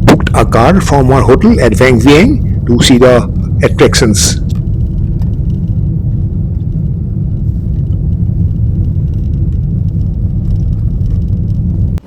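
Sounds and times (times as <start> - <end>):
moving car rumble: 0.0 - 12.0.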